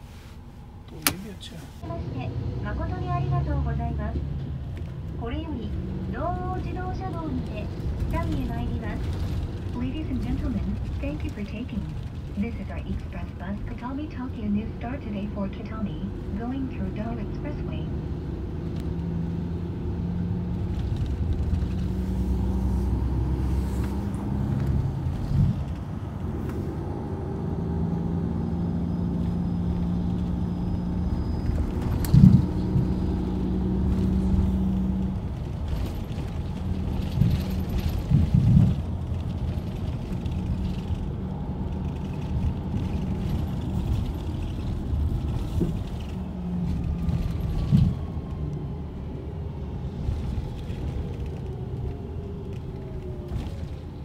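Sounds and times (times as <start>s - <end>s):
bus engine hum and road rumble: 0.0s - 54.0s.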